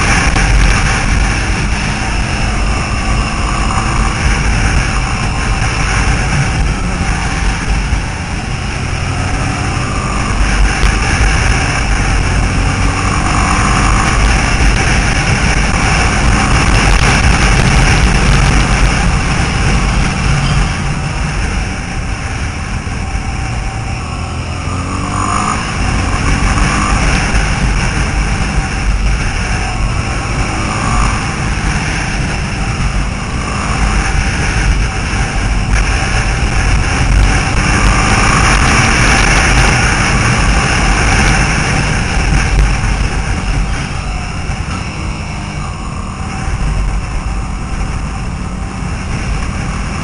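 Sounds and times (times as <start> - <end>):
scooter engines running: 0.0 - 24.0, 24.6 - 50.0
wind rushing over microphone: 0.0 - 50.0.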